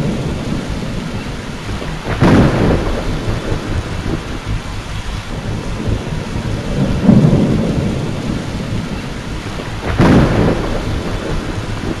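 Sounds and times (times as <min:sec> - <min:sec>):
tornado winds roaring: 0:00.0 - 0:12.0.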